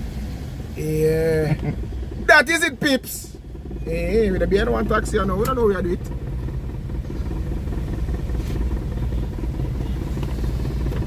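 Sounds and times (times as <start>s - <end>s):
road noise: 0.0s - 11.0s
vehicle engine rumble: 0.0s - 11.0s.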